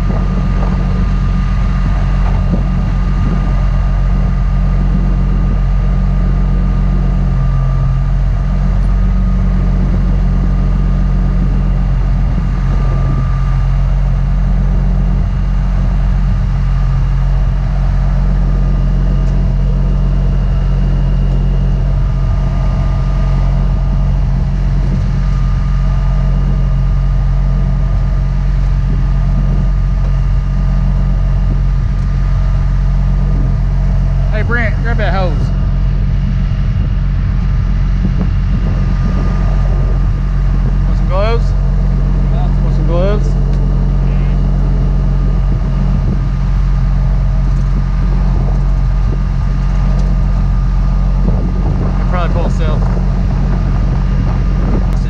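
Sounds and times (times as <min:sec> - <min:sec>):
diesel engine running: 0:00.0 - 0:55.0
thin steady whine: 0:00.0 - 0:55.0.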